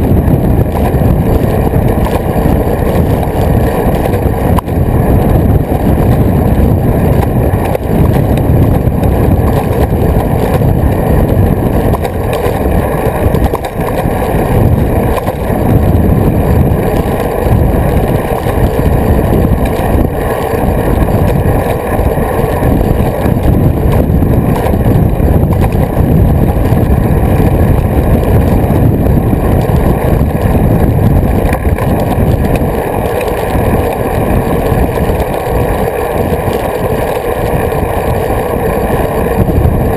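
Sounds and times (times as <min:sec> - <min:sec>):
tyre and road rumble: 0:00.0 - 0:39.9
wind rushing over microphone: 0:00.0 - 0:39.9.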